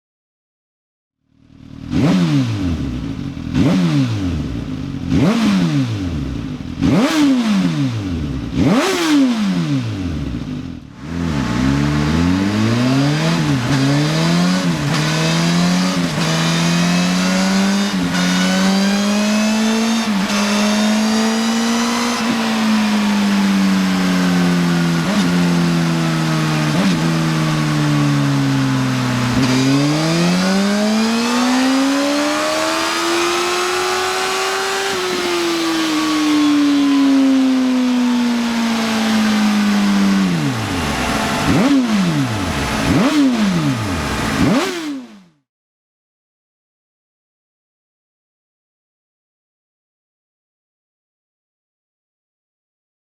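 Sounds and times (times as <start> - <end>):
motorcycle accelerating through gears: 1.3 - 45.4
motorcycle engine revving: 1.3 - 45.4.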